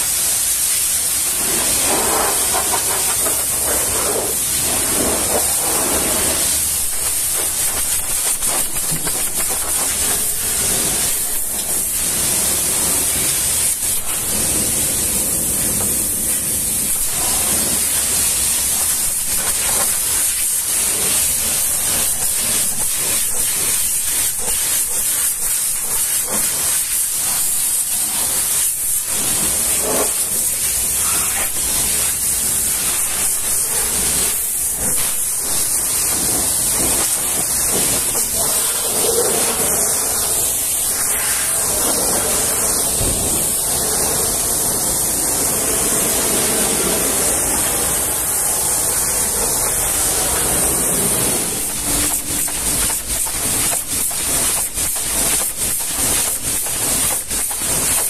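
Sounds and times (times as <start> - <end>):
pressure washer spraying: 0.0 - 58.0.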